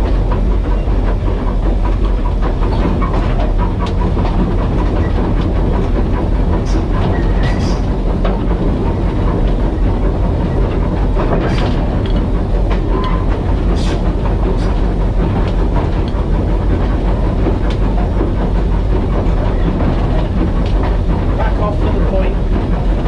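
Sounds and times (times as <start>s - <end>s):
steam locomotive rumble: 0.0s - 23.0s.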